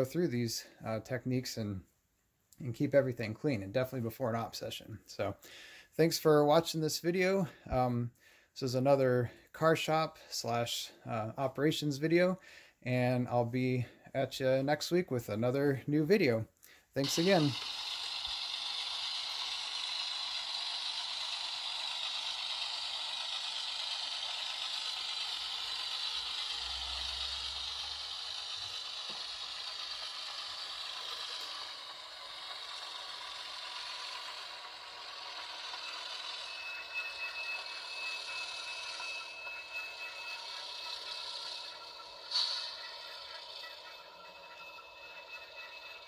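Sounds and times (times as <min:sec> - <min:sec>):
model locomotive whir and rattle: 0:06.0 - 0:12.4, 0:13.8 - 0:46.0.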